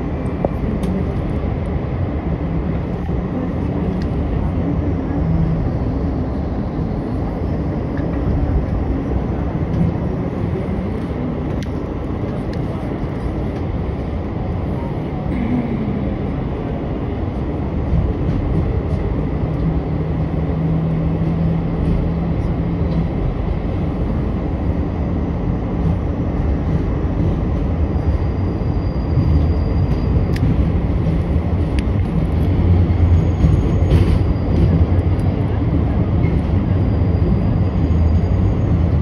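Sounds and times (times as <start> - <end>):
train wheels rumbling: 0.0 - 39.0.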